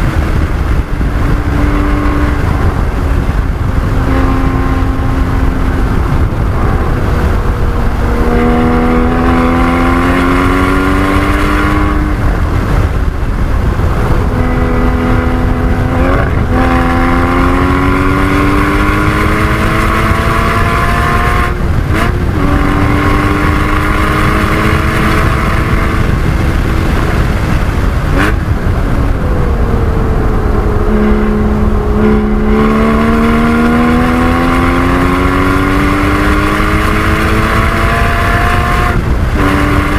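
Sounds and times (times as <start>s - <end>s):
car engine accelerating: 0.0s - 39.9s
road and wind rumble: 0.0s - 39.9s.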